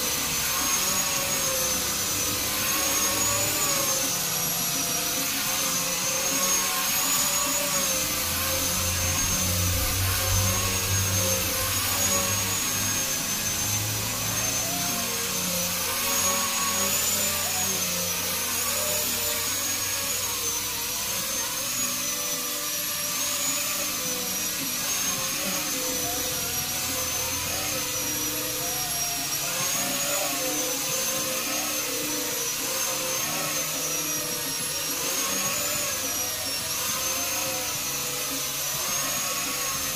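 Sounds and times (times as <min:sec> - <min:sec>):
angle grinder motor whine: 0:00.0 - 0:39.9
sandpaper rasping on wood: 0:00.0 - 0:39.9.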